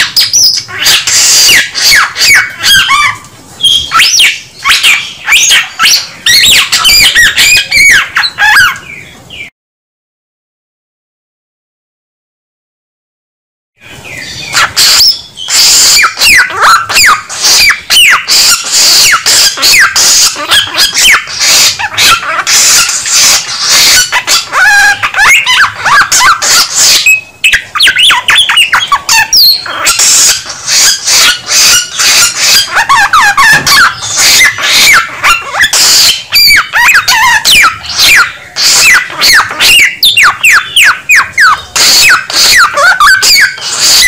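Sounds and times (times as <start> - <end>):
songbird singing: 0.0 - 9.5, 13.8 - 44.0.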